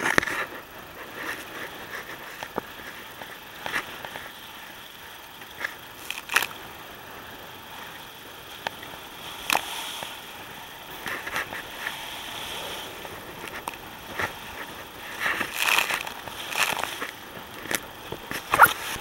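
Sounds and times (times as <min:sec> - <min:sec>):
hiss of wind and waves: 0:00.0 - 0:19.0.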